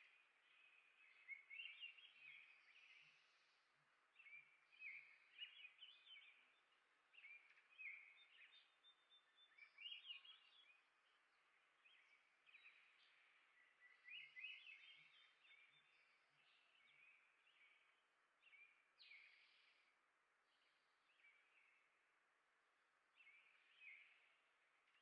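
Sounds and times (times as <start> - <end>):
songbird chirping and twittering: 0.0 - 25.0.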